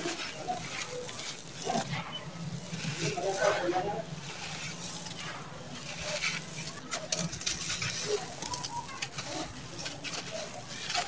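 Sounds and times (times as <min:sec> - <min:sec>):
hands crumbling gritty sand: 0:00.0 - 0:11.0.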